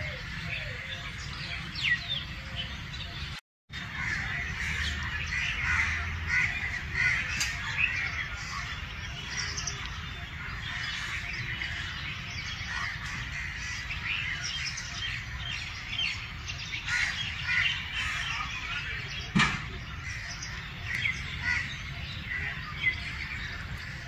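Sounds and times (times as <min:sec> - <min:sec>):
birds chirping and calling: 0:00.0 - 0:24.0.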